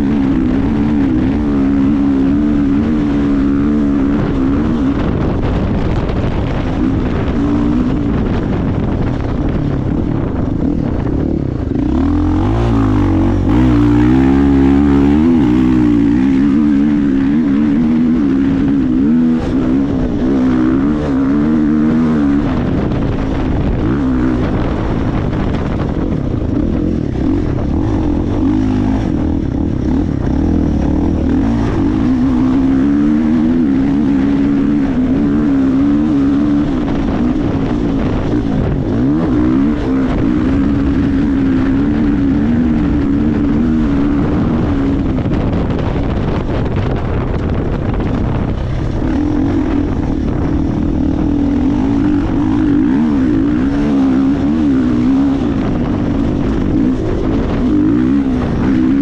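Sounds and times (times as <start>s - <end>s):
dirt bike engine revving: 0.0s - 59.0s
wind on microphone: 0.0s - 59.0s.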